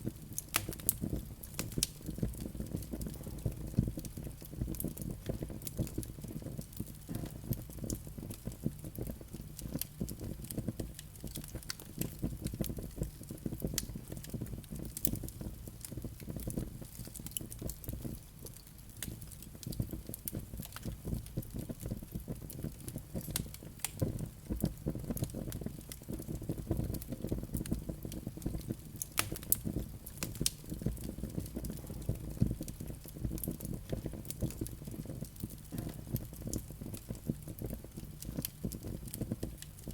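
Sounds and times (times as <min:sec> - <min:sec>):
burning logs crackling and popping: 0:00.0 - 0:39.9
low rumble of flames: 0:00.0 - 0:39.9.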